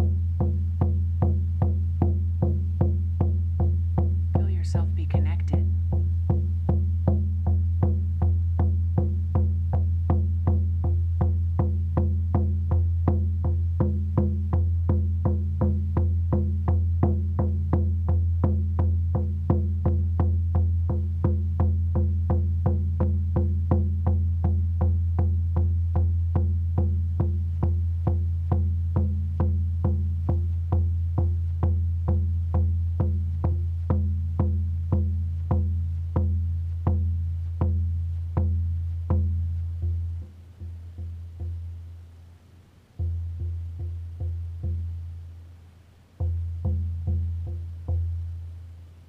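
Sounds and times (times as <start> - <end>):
hand drum struck with beater: 0.0 - 41.9, 43.0 - 45.2, 46.2 - 48.6.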